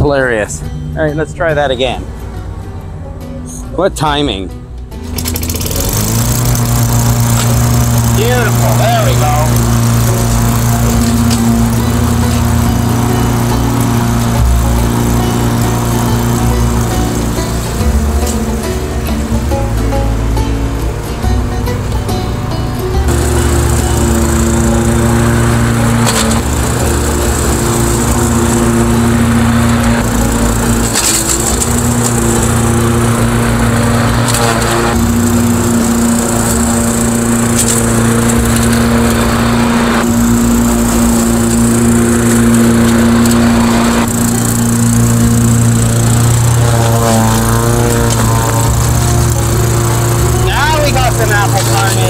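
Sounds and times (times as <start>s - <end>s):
lawnmower engine running: 4.8s - 52.0s.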